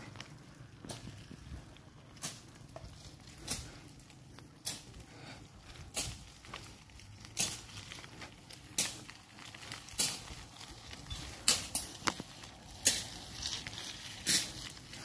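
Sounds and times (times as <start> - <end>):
bicycle clicks and rattles: 0.0 - 15.0
bicycle rolling over gravel road: 0.0 - 15.0.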